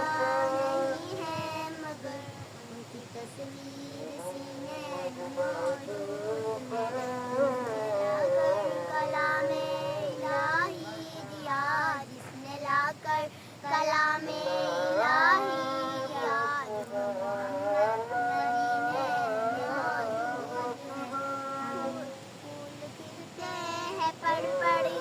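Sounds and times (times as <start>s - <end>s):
girls singing devotional chant: 0.0s - 25.0s.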